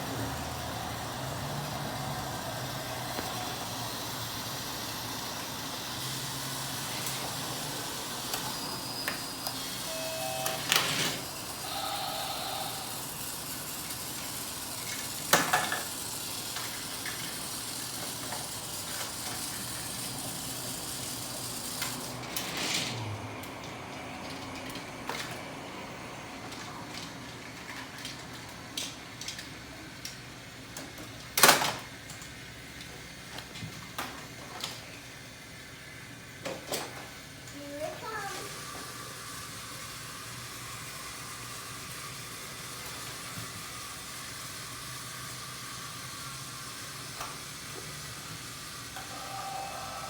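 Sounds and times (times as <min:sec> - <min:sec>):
toy train whirring: 0:00.0 - 0:50.0.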